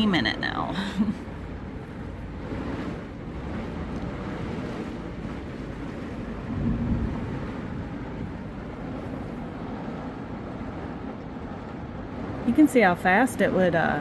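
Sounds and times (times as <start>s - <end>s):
low rumble: 0.0s - 12.5s
heavy rain pouring: 0.0s - 14.0s.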